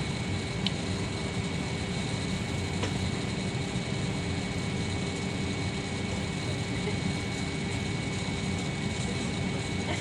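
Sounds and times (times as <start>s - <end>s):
airliner cabin hum and rush: 0.0s - 10.0s
faint whining tones: 0.0s - 10.0s.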